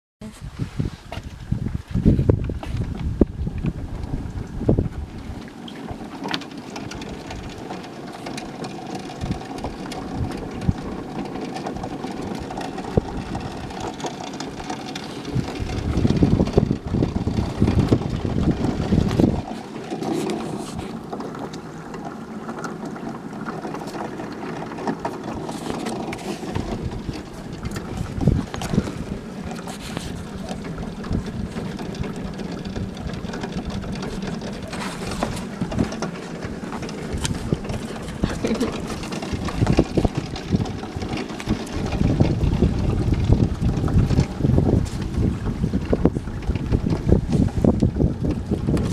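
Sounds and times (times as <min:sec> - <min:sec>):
wind buffeting microphone: 0:00.2 - 0:48.9.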